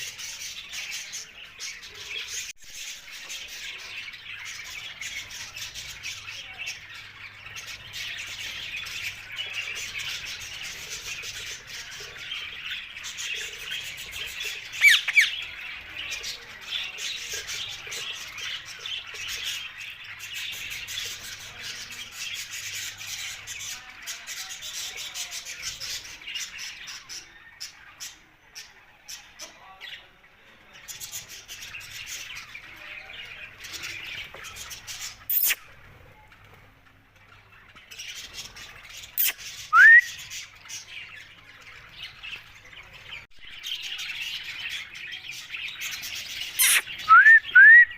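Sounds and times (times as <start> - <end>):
parrots chattering and squawking: 3.2 - 29.3, 30.9 - 36.2, 37.4 - 47.6.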